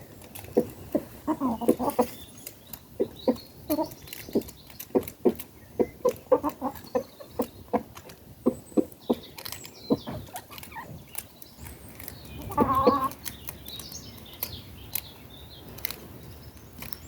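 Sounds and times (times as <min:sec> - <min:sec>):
chickens clucking: 0:00.0 - 0:15.0
beaks tapping: 0:00.2 - 0:17.0.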